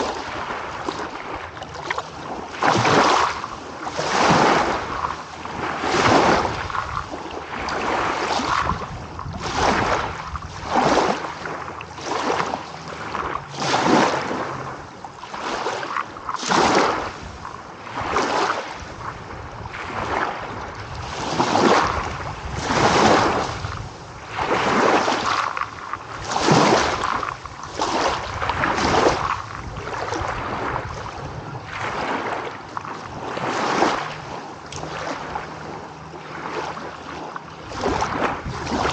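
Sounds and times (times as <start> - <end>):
small waves breaking: 0.0 - 38.9.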